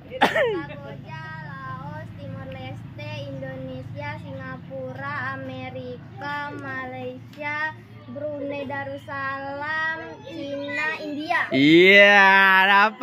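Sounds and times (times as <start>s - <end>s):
child singing in high voice: 1.0s - 11.6s.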